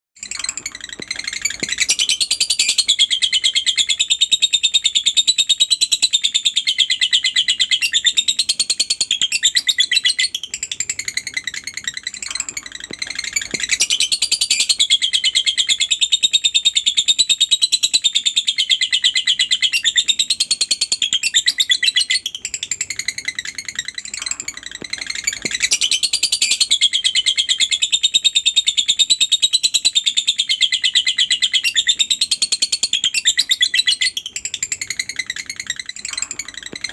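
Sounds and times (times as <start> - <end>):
lovebird chattering trill: 0.2 - 36.9.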